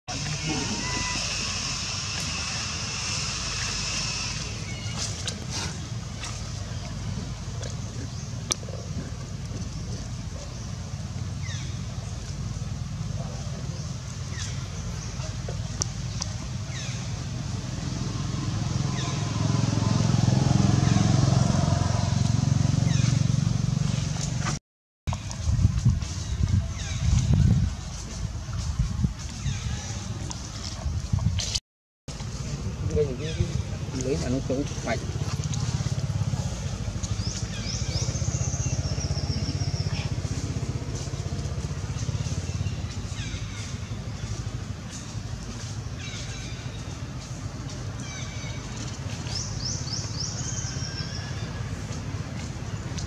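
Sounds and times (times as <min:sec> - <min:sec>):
motorcycle engine running: 0:00.1 - 0:24.6, 0:32.1 - 0:53.0.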